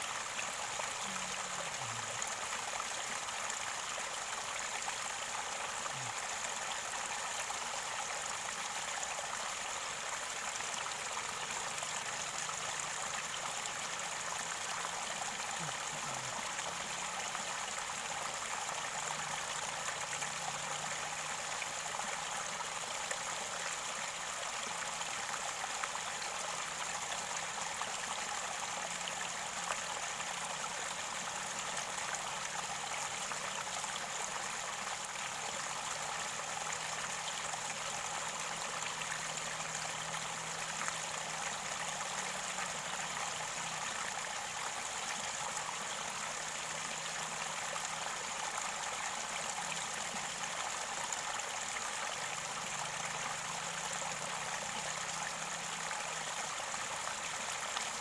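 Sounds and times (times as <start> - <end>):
river water gurgling: 0.0 - 58.0.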